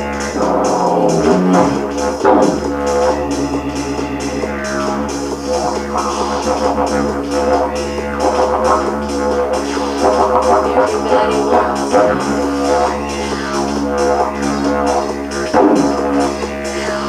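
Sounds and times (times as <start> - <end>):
didgeridoo drone: 0.0 - 17.0.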